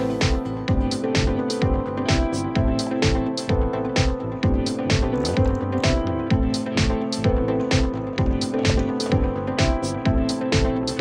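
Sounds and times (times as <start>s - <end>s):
pop music with drum beat: 0.0s - 11.0s.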